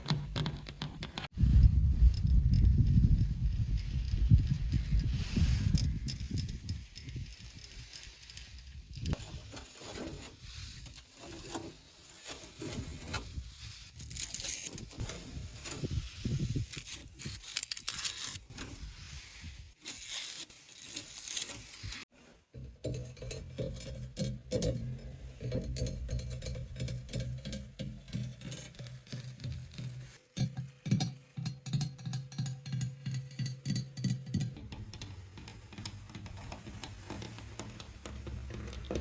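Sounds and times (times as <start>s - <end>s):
objects scraping and rustling: 0.0s - 31.4s, 32.5s - 39.0s.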